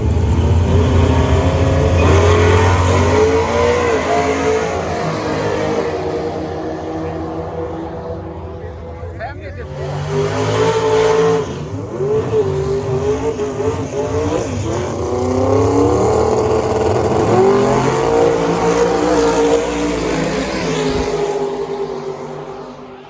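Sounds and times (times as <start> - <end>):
race car engines roaring: 0.0 - 23.0.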